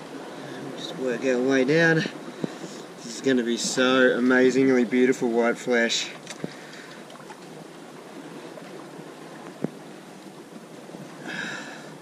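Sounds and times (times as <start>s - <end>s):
sea waves: 0.0s - 12.0s.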